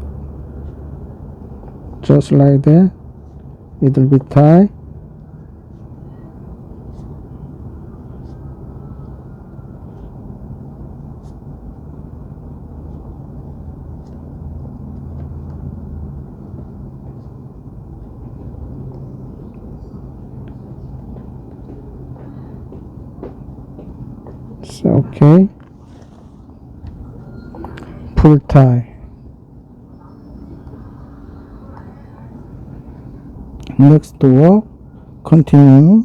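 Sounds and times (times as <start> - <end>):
low droning hum: 0.0 - 36.0.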